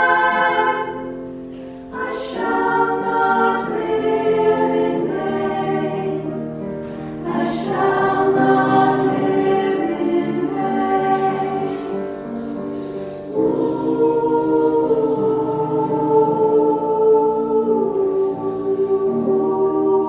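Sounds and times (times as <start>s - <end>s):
choir singing in harmony: 0.0s - 20.0s.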